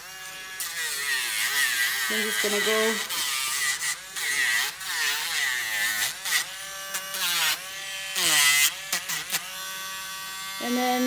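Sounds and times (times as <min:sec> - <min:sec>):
electric nail grinder buzzing: 0:00.0 - 0:11.0.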